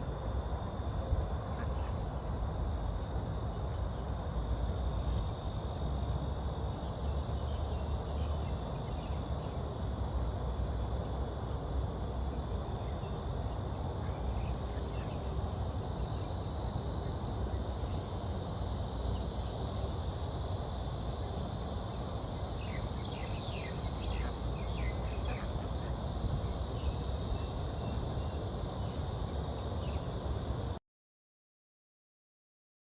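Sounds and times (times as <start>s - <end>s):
high-pitched insect chorus: 0.0s - 30.8s.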